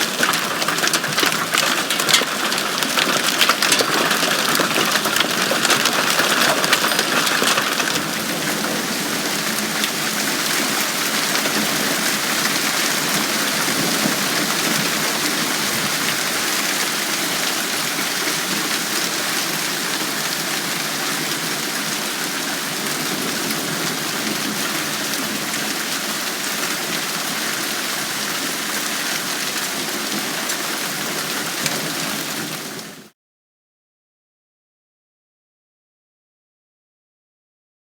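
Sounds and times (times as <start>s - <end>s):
hail falling hard: 0.0s - 33.1s.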